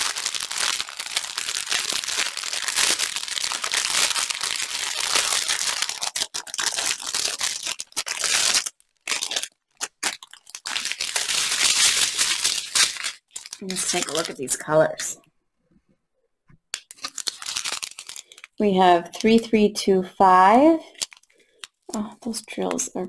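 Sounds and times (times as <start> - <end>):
plastic bag crinkling: 0.0 - 15.1, 16.8 - 19.5, 20.8 - 22.0.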